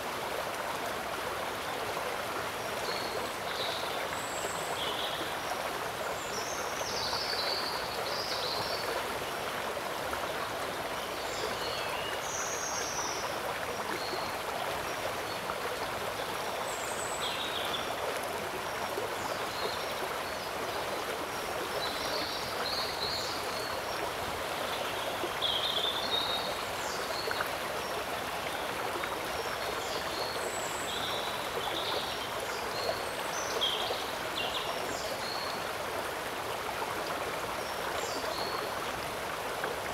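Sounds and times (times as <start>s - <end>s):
river water rippling: 0.0s - 39.9s.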